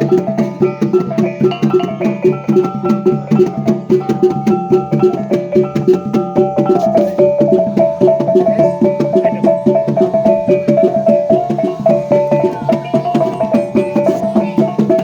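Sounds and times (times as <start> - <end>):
fast percussion strokes: 0.0 - 15.0
repeating melody: 0.0 - 15.0.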